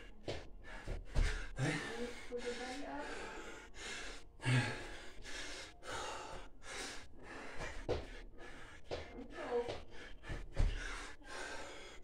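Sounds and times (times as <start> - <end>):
man breathing hard: 0.0 - 12.0.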